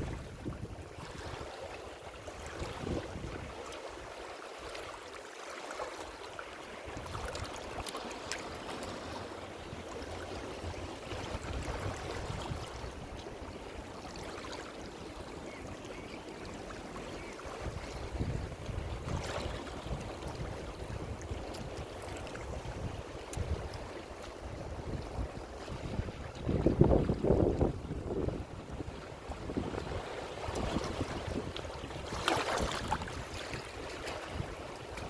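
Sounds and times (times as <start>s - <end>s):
waves rumbling: 0.0s - 5.0s, 5.7s - 35.0s
surf washing on shore: 0.0s - 35.0s.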